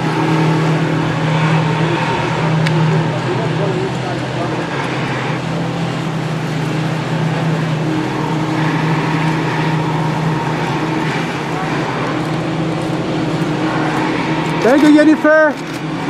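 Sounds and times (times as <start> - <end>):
road and traffic noise: 0.0 - 16.0
vehicle engine humming: 0.0 - 16.0.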